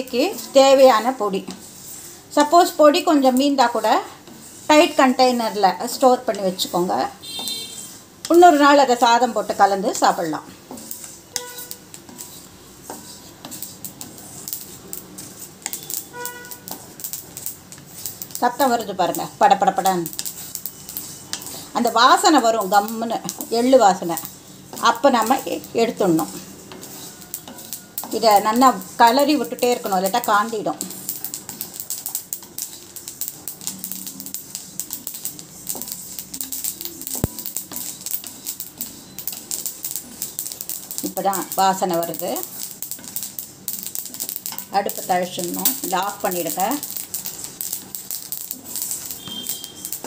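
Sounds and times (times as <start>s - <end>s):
seeds crackling and popping: 0.0s - 50.0s.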